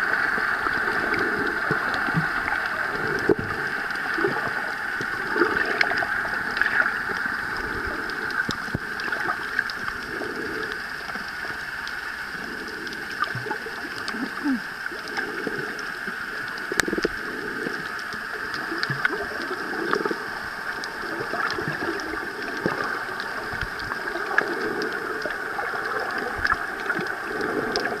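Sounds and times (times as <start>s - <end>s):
sea water gurgling and sloshing: 0.0s - 28.0s
small clicks and splashes: 0.1s - 28.0s.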